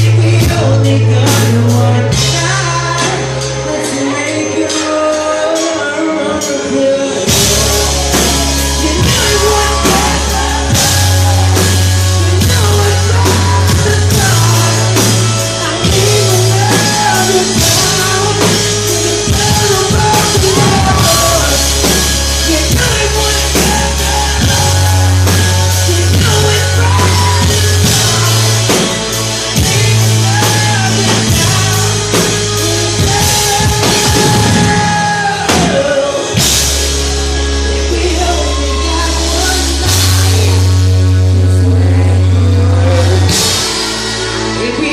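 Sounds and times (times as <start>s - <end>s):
drum kit: 0.0s - 44.9s
person singing: 0.0s - 44.9s
rock band playing: 0.0s - 44.9s.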